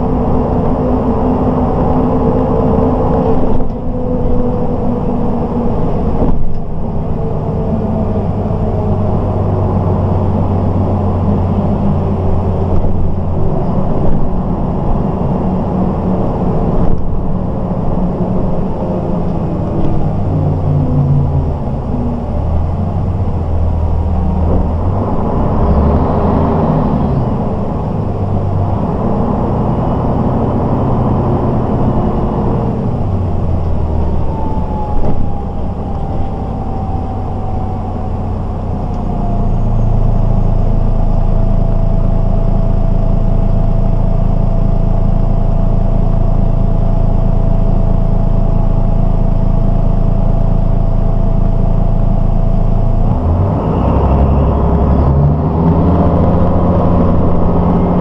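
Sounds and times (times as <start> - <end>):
bus diesel engine: 0.0 - 58.0
road noise: 0.0 - 58.0.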